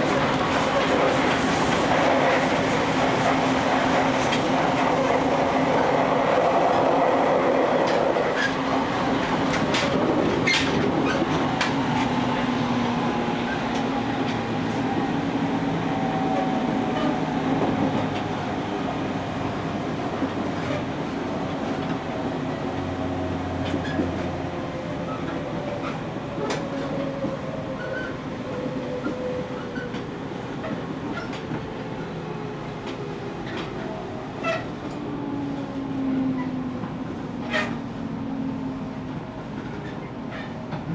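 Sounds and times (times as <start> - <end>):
train wheel rumble: 0.0 - 40.9.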